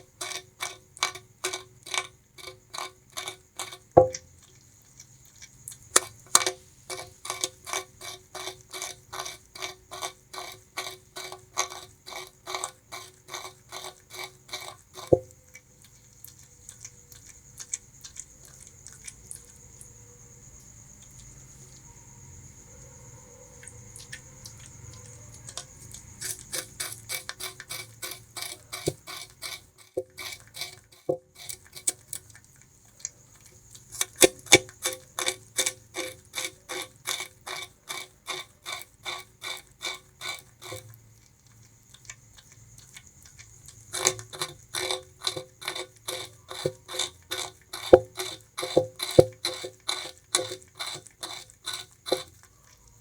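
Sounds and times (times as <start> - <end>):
rat gnawing sugarcane: 0.0 - 53.0.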